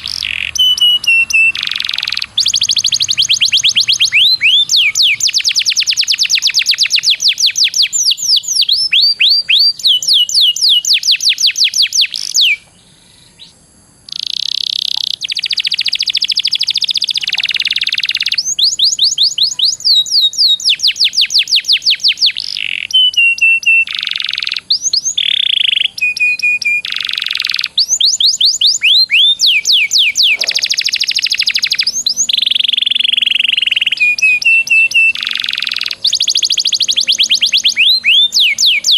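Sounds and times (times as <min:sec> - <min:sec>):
songbird singing rapid high notes: 0:00.0 - 0:38.9.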